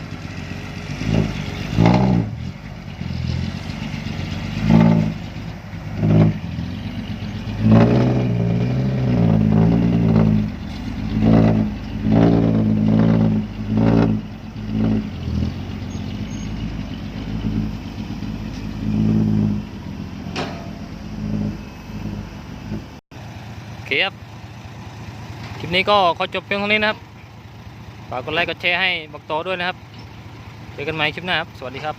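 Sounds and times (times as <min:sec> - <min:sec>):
truck diesel engine revving: 0:00.0 - 0:31.9.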